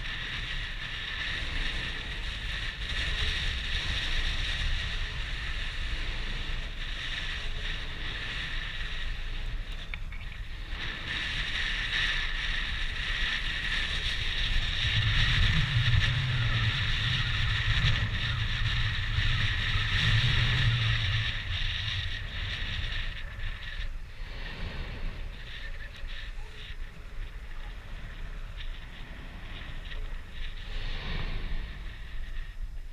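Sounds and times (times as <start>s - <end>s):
volcano low rumbling whoosh: 0.0s - 32.9s
wind buffeting microphone: 0.0s - 32.9s.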